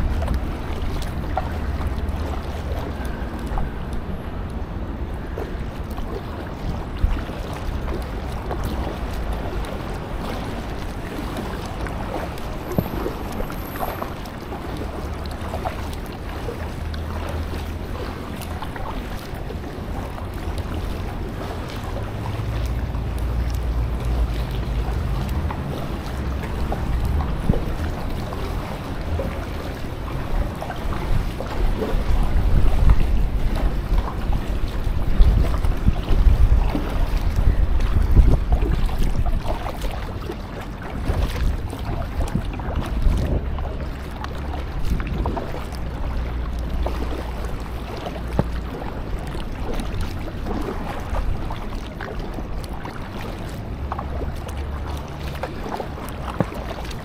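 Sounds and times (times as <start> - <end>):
paddle strokes in water: 0.0 - 57.0
water splashing and dripping: 0.0 - 57.0
wind rumbling on microphone: 0.0 - 57.0.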